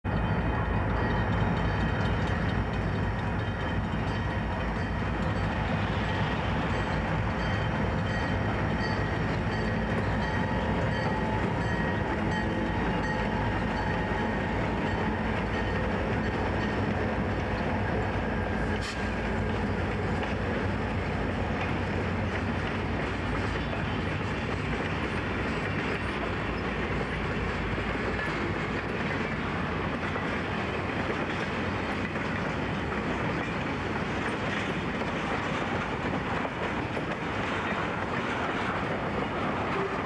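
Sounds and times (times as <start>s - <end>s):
freight train passing: 0.0s - 40.0s.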